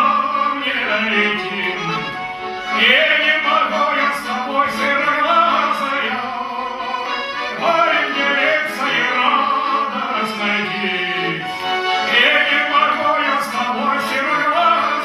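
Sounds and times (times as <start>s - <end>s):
instrumental accompaniment: 0.0s - 15.0s
man singing: 0.0s - 15.0s.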